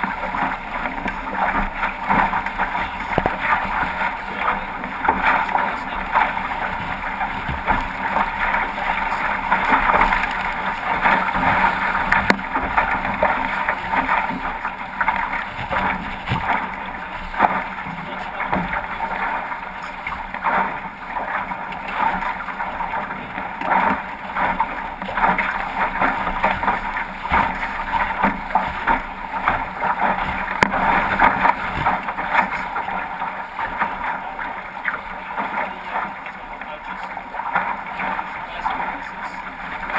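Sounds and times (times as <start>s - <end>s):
water rushing along hull: 0.0s - 39.9s
waves slapping hull: 0.0s - 39.9s.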